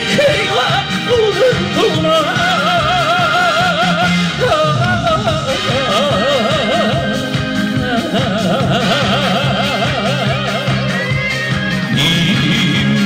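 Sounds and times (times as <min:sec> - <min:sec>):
bass line: 0:00.0 - 0:13.0
steady beat: 0:00.0 - 0:13.0.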